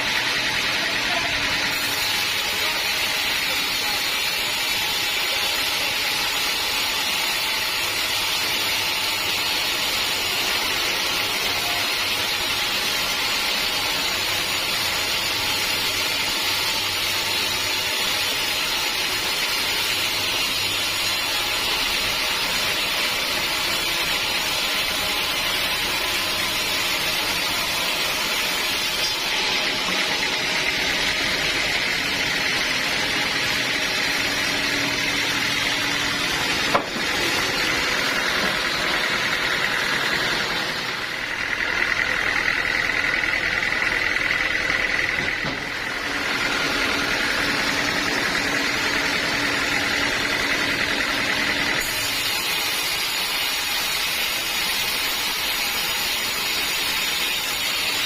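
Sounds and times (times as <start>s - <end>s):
saw blade cutting log: 0.0s - 58.0s
saw motor running: 0.0s - 58.0s.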